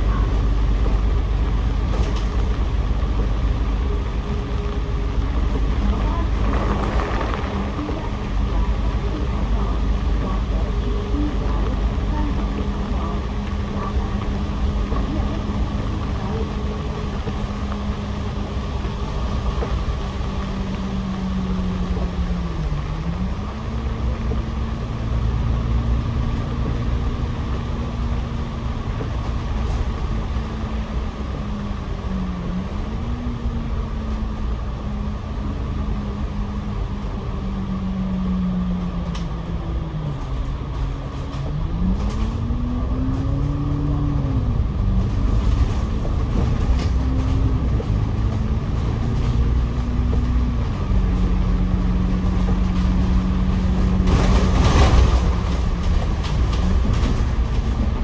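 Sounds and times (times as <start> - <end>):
bus engine drone: 0.0 - 58.0
road noise: 0.0 - 58.0.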